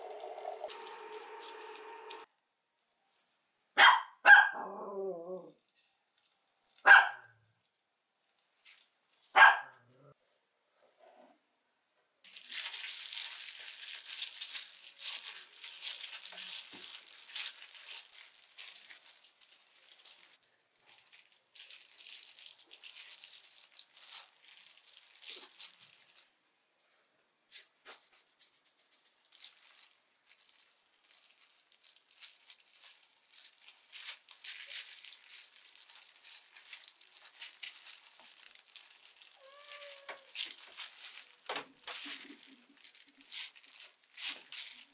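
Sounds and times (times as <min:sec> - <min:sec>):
plastic gloves crinkling: 0:00.0 - 0:02.3, 0:05.6 - 0:06.8, 0:08.2 - 0:09.3, 0:12.2 - 0:26.5, 0:27.6 - 0:44.9.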